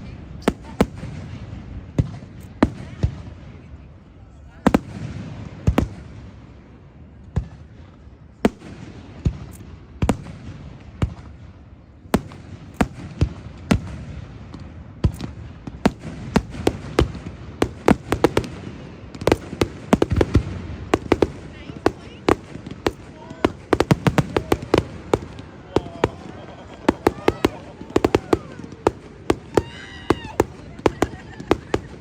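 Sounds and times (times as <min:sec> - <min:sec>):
fireworks bangs: 0:00.0 - 0:32.0
low crackling rumble: 0:00.0 - 0:32.0.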